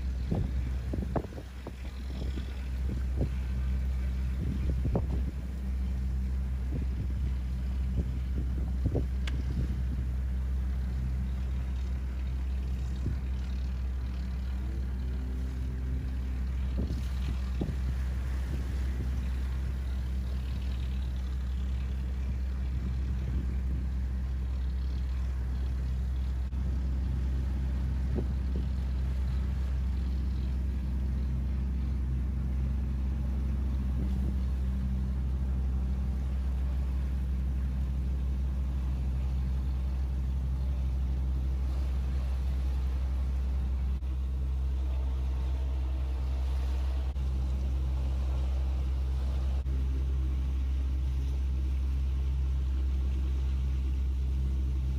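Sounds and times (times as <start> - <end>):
boat engine rumbling: 0.0 - 54.9.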